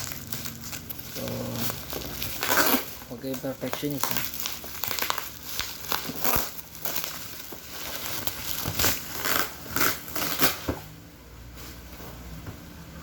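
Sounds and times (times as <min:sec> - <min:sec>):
packaging crinkling and rustling: 0:00.0 - 0:10.8.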